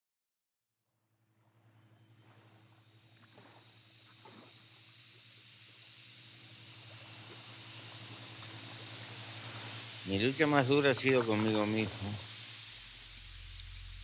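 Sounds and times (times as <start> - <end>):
insects chirping: 1.2 - 14.0
low steady hum: 1.2 - 14.0
high hiss: 1.8 - 14.0.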